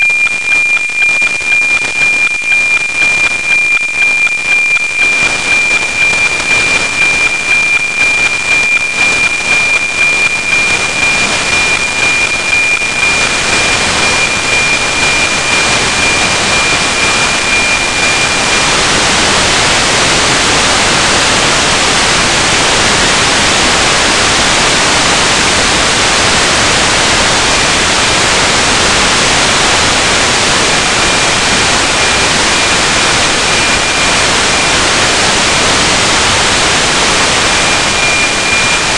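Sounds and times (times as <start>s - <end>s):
radio static hiss: 0.0s - 38.9s
ticking high radio tone: 0.0s - 38.9s.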